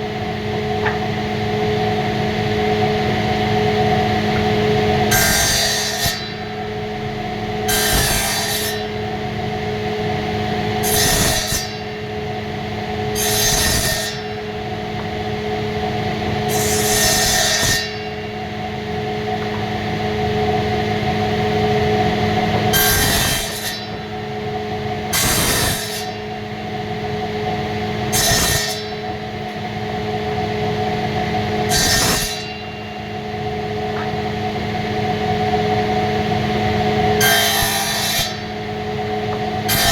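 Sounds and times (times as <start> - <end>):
woodworking power tool running: 0.0 - 39.9.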